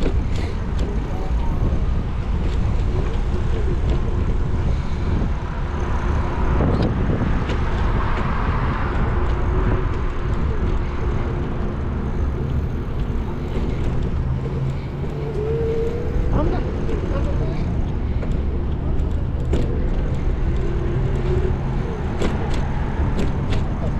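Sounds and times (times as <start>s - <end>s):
car engine and road noise: 0.0s - 23.9s
surrounding traffic: 0.0s - 23.9s.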